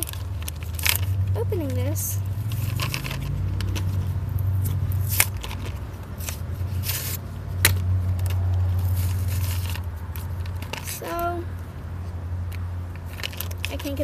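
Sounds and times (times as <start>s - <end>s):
blister pack crinkling and scraping: 0.0s - 11.2s, 12.9s - 14.0s
steady low rumble: 0.0s - 14.0s.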